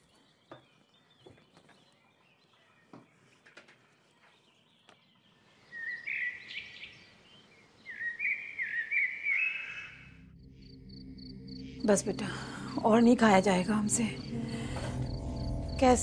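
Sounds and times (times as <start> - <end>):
songbird chirping and warbling: 0.0 - 16.0.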